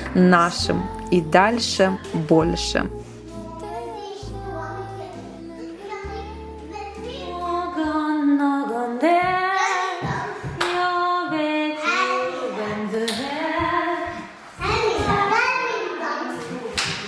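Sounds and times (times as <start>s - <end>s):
woman and children singing: 0.0s - 15.3s.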